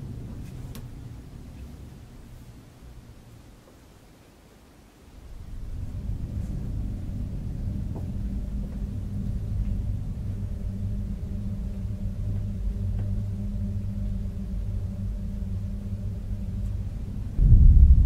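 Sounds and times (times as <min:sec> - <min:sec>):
low rumbling drone with hum: 0:00.0 - 0:03.6, 0:05.2 - 0:18.0.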